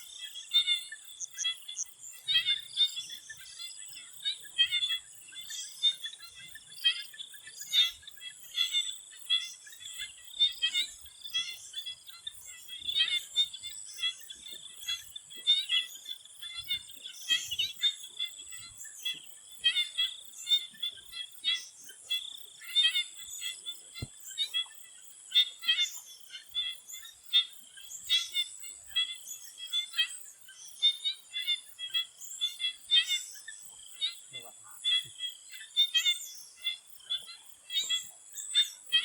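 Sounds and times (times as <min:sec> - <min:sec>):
frogs calling: 0:00.0 - 0:39.0.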